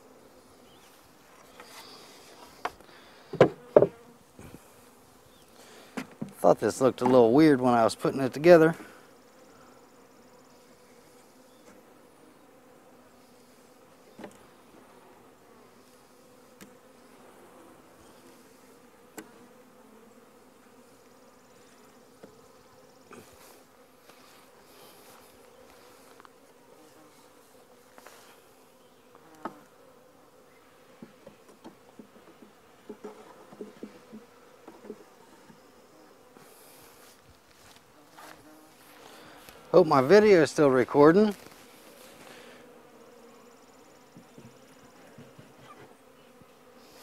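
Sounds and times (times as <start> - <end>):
honey bees buzzing: 0.0 - 47.0.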